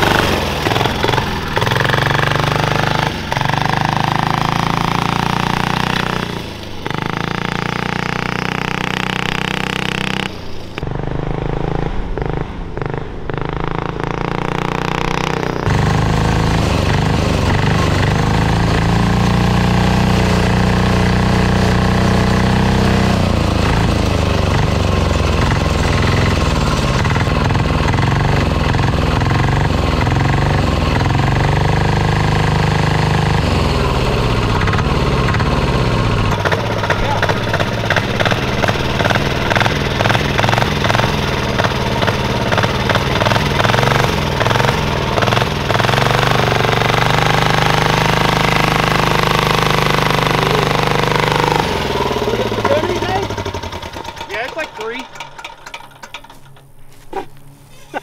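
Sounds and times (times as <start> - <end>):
diesel engine clattering: 0.0 - 58.0.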